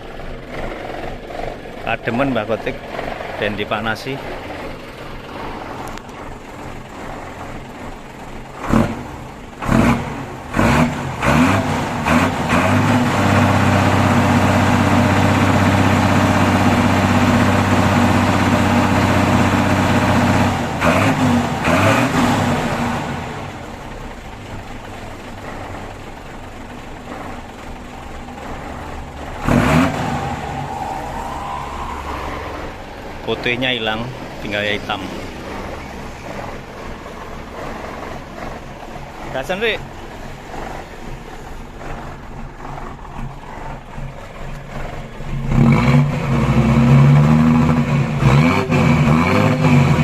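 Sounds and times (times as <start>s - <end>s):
truck diesel engine revving: 0.0s - 50.0s.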